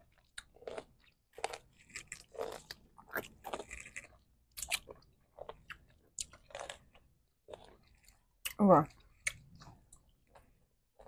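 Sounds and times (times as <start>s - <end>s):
person chewing crunchy pickle: 0.0s - 11.0s.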